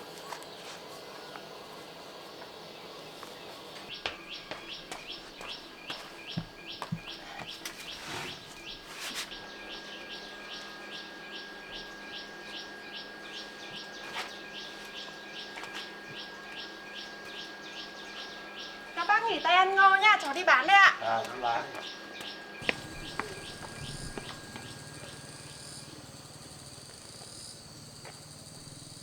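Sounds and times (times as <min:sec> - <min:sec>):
bird chirping: 0:02.3 - 0:19.8, 0:21.7 - 0:29.0.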